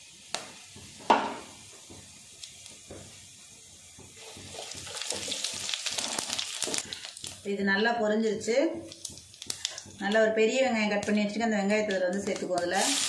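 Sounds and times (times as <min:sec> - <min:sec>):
spices sizzling in hot oil: 0:00.0 - 0:07.6, 0:08.8 - 0:13.0.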